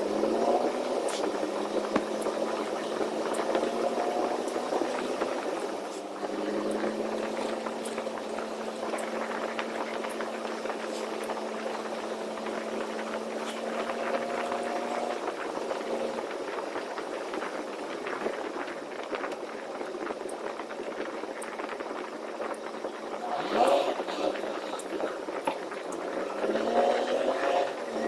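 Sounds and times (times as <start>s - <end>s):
truck engine hum: 0.0s - 19.1s, 20.6s - 28.0s
hiss of wet snowy road: 0.0s - 20.9s, 21.8s - 28.0s.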